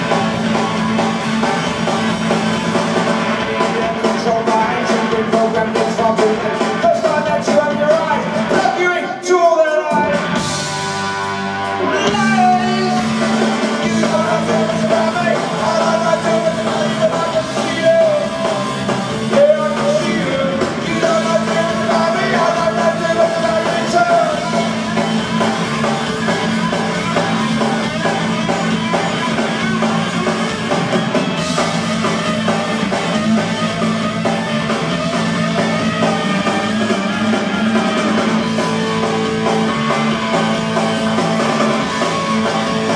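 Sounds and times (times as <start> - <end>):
bass guitar: 0.0 - 42.9
drum kit: 0.0 - 42.9
electric guitar: 0.0 - 42.9.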